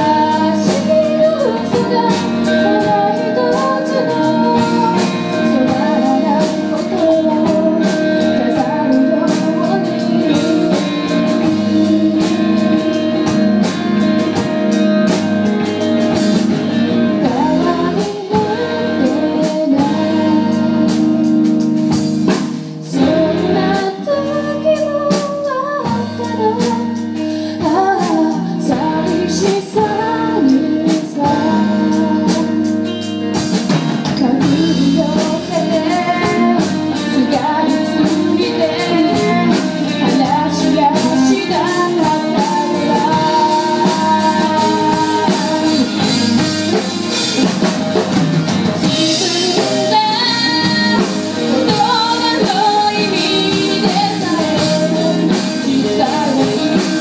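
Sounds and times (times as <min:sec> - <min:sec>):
woman singing: 0:00.0 - 0:14.5, 0:16.1 - 0:33.0, 0:34.0 - 0:47.7, 0:48.8 - 0:57.0
drum kit: 0:00.0 - 0:57.0
electric guitars: 0:00.0 - 0:57.0.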